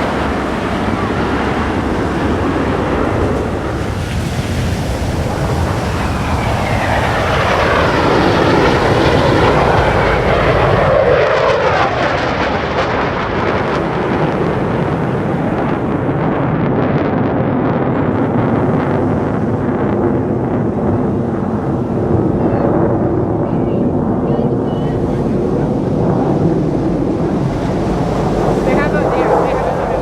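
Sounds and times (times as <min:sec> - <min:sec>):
jet roaring past: 0:00.0 - 0:30.0.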